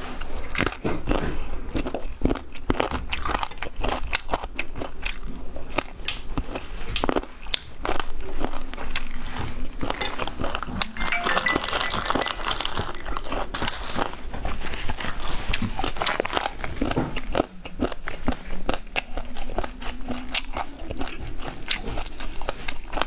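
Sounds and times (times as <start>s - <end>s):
chewing crunchy food: 0.0s - 23.0s.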